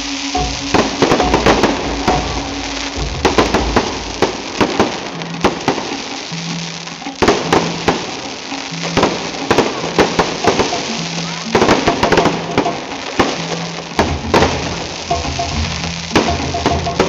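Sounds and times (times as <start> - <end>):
fireworks bangs and crackling: 0.0 - 17.0
music with held notes: 0.0 - 17.0.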